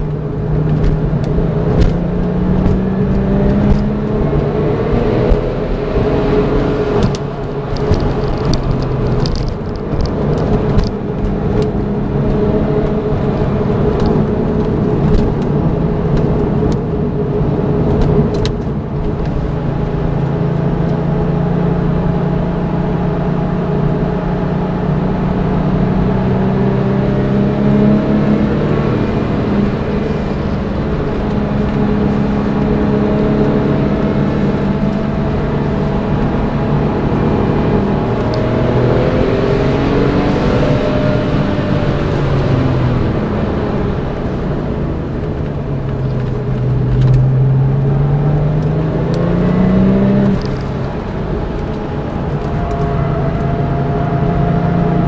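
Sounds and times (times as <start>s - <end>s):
car engine pulling hard: 0.0s - 55.0s
road noise: 0.0s - 55.0s.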